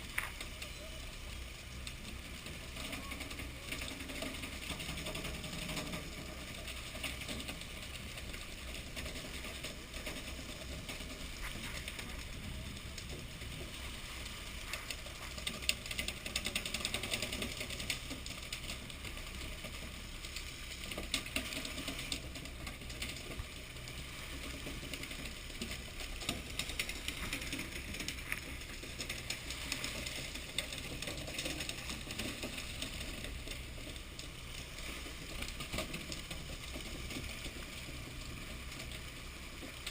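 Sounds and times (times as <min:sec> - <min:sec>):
boat engine running: 0:00.0 - 0:39.9
rapid clicks and ticks: 0:00.0 - 0:39.9.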